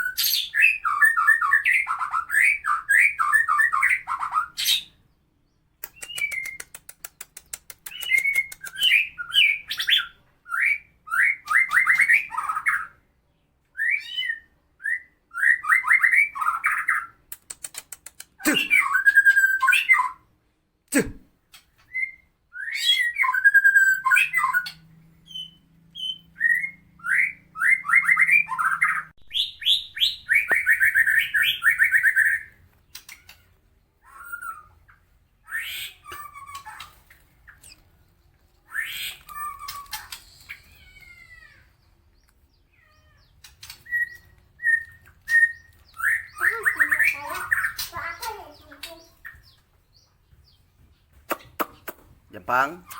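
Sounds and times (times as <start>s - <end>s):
bird singing harsh song: 0.0s - 20.3s, 21.0s - 52.9s.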